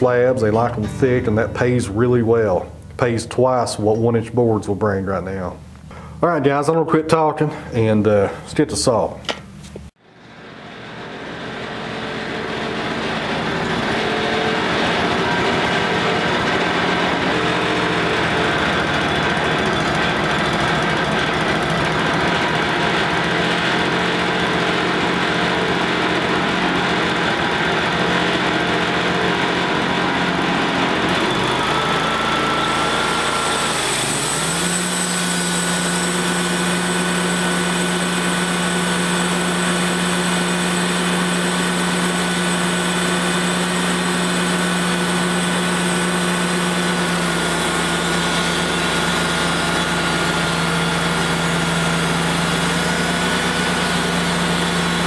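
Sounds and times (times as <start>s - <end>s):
sawmill engine running: 0.0s - 4.0s, 10.0s - 55.0s.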